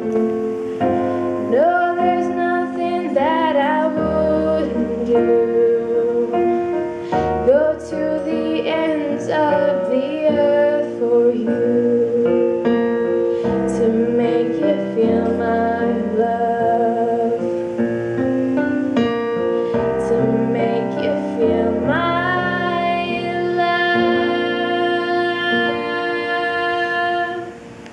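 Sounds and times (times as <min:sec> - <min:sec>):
instrumental accompaniment: 0:00.0 - 0:27.9
woman singing a slow ballad: 0:00.8 - 0:17.9, 0:18.5 - 0:27.8.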